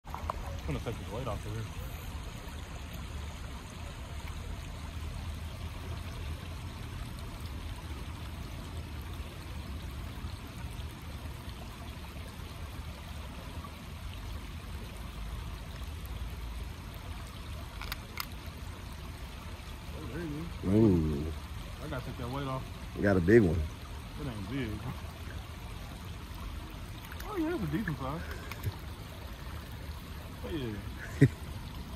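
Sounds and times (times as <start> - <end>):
flowing river water: 0.0 - 31.9.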